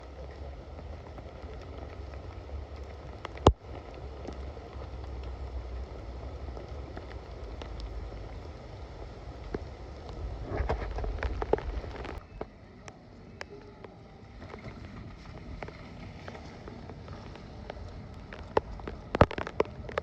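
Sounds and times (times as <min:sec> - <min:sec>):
low steady rumble: 0:00.0 - 0:20.0
rain falling: 0:00.0 - 0:20.0.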